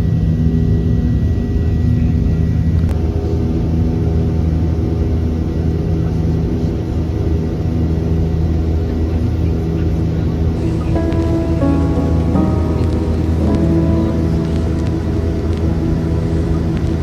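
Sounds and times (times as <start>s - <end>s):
jet engines droning in cabin: 0.0s - 17.0s.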